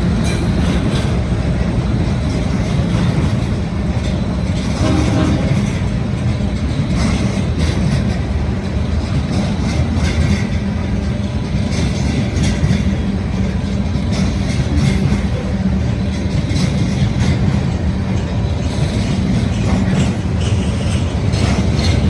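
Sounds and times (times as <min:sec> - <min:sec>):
freight train rumbling: 0:00.0 - 0:22.0
wheels clanking on rails: 0:00.0 - 0:22.0.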